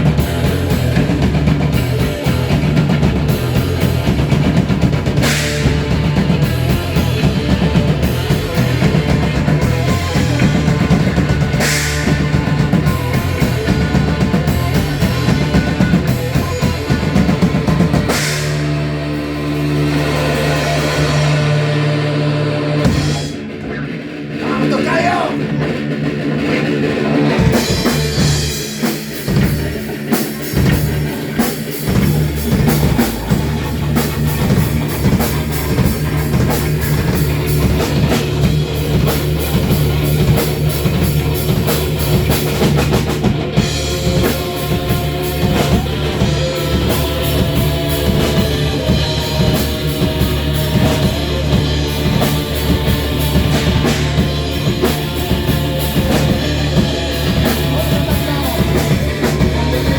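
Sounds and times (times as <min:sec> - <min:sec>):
drum kit beat: 0:00.0 - 0:59.9
electric guitar riff: 0:00.0 - 0:59.9.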